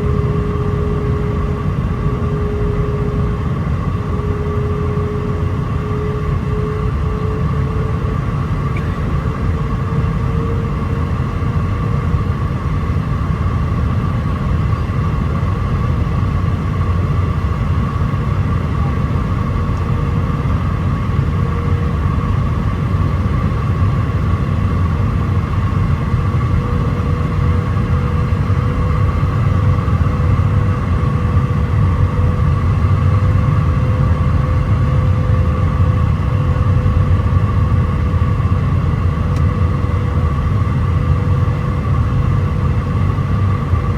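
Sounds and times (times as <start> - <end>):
engine whine: 0.0 - 43.9
low rumble of airflow and engines: 0.0 - 43.9.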